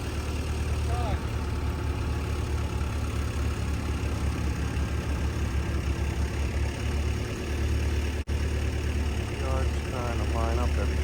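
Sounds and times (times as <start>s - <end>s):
engine idling low rumble: 0.0s - 11.0s.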